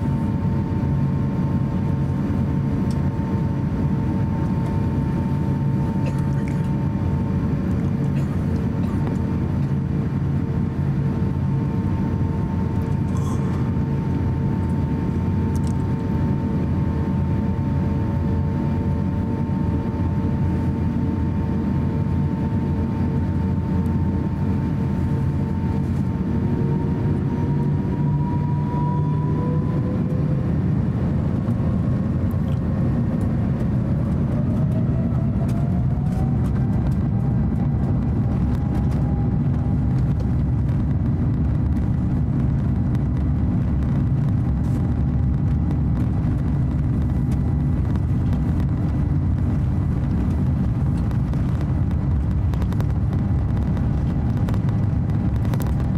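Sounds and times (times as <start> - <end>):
jet engines rumbling and whining: 0.0 - 55.9.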